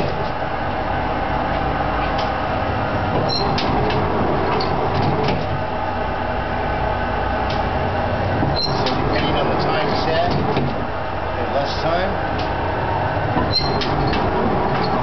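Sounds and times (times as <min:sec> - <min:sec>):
die cutter motor rumble and hum: 0:00.0 - 0:15.0.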